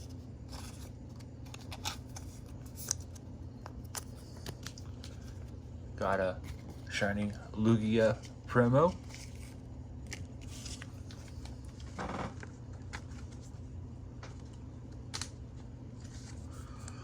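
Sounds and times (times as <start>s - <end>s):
rustling of card packaging: 0.0s - 5.6s, 6.4s - 13.6s, 14.2s - 16.6s
low electrical hum: 0.0s - 17.0s.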